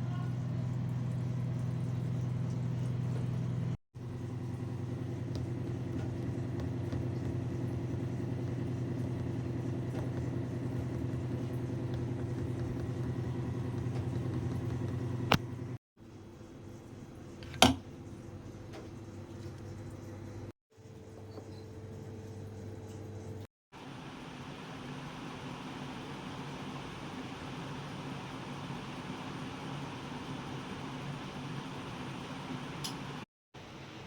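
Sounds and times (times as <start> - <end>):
motor hum: 0.0 - 33.3.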